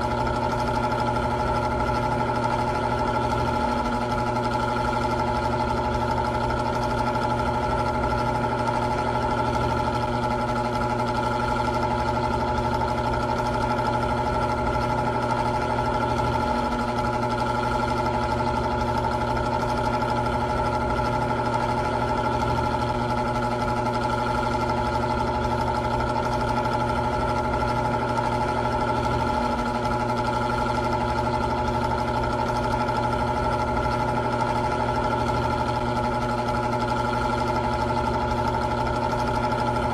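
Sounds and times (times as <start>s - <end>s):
electric fan motor hum: 0.0s - 39.9s.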